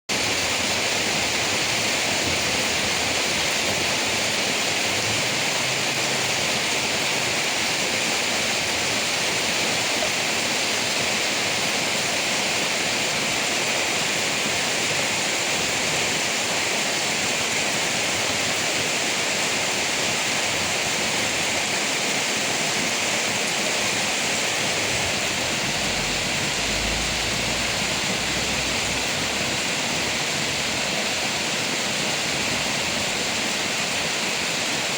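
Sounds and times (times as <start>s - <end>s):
rain falling on leaves: 0.1s - 34.9s.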